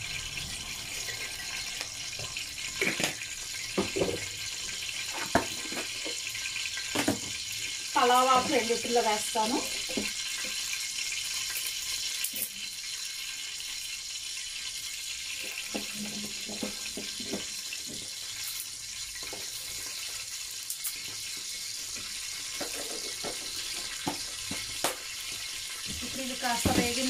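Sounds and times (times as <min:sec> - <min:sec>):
oil sizzling in pans: 0:00.0 - 0:27.0.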